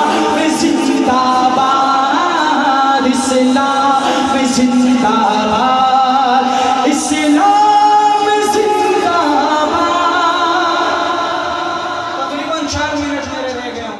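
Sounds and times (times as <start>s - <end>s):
man singing into a microphone: 0.0s - 13.9s.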